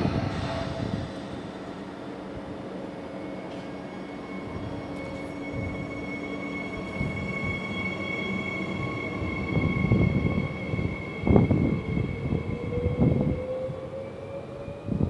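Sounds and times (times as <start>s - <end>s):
electric train whine: 0.0s - 15.0s.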